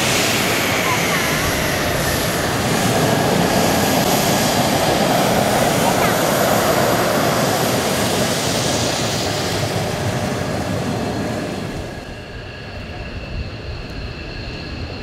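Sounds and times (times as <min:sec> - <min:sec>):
high engine whine: 0:00.0 - 0:15.0
jet engine roar: 0:00.0 - 0:15.0.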